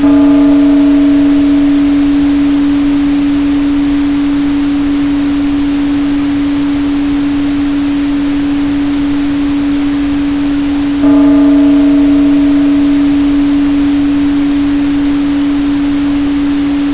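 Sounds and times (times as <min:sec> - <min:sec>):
pink noise hiss: 0:00.0 - 0:16.9
steady single tone: 0:00.0 - 0:16.9.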